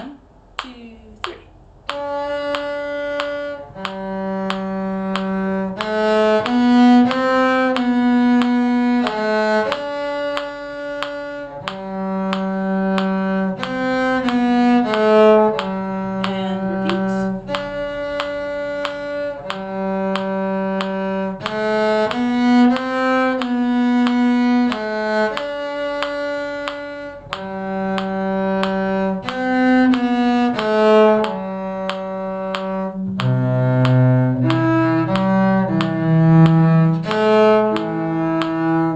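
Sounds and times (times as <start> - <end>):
bowed strings playing slow tune: 1.7 - 38.9.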